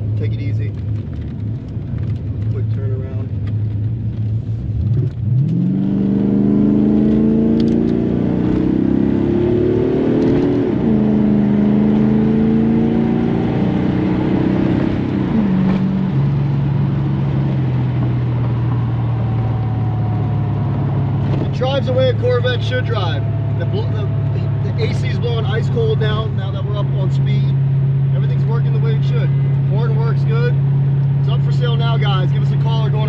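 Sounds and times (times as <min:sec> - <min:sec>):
car engine accelerating hard: 0:00.0 - 0:33.0
tyre and road noise: 0:00.0 - 0:33.0.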